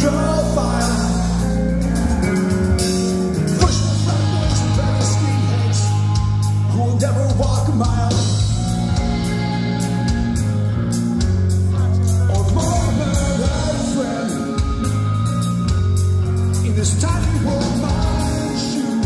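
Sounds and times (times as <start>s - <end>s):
punk rock band playing live: 0.0s - 19.0s.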